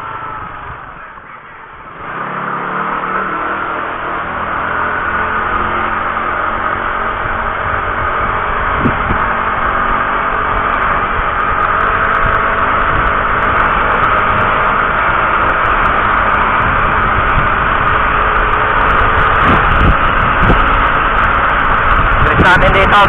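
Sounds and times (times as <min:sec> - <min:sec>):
vehicle engine and road noise: 0:00.0 - 0:23.0.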